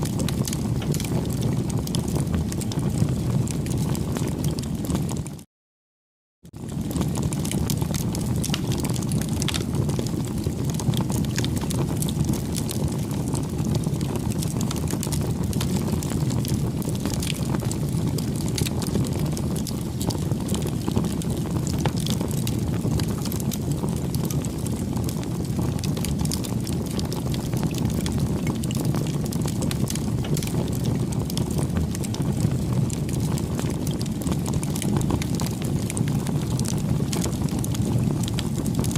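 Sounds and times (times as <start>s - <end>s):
campfire crackling: 0.0s - 5.2s, 6.6s - 38.9s.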